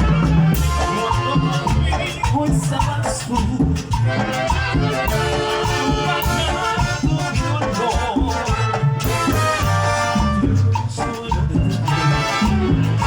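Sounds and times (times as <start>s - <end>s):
horns: 0.0s - 2.5s, 4.0s - 13.0s
latin dance band playing: 0.0s - 13.0s
maracas shaking: 0.0s - 13.0s
steady bass beat: 0.0s - 13.0s.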